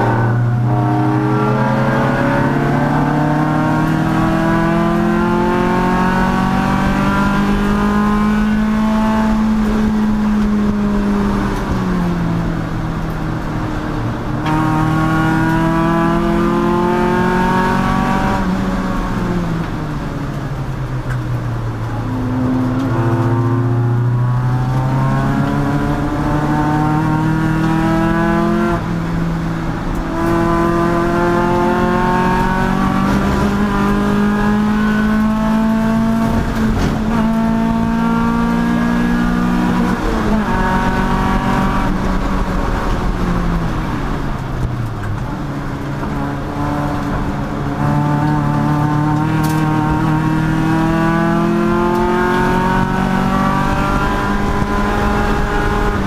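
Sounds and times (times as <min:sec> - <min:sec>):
race car engine accelerating: 0:00.0 - 0:20.4, 0:21.5 - 0:56.0.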